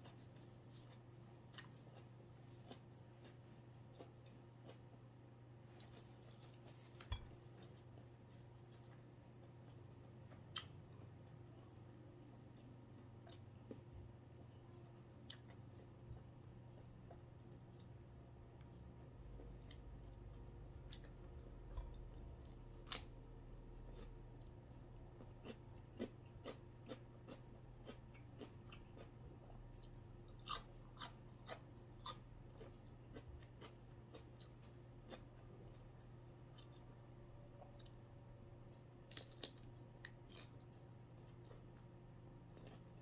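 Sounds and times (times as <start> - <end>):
chewing and eating sounds: 0.0 - 43.0
faint low hum: 0.0 - 43.0.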